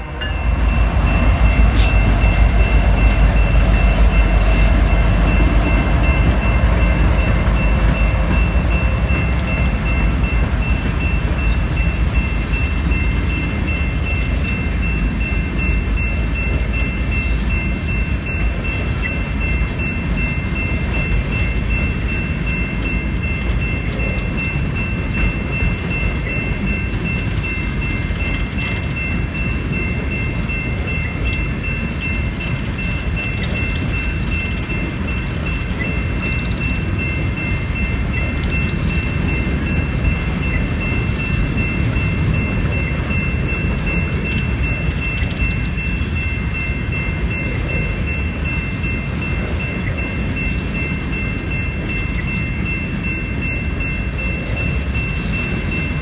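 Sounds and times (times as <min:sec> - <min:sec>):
electronic crossing bell ringing: 0:00.0 - 0:56.0
freight train rumbling and rattling: 0:00.0 - 0:56.0.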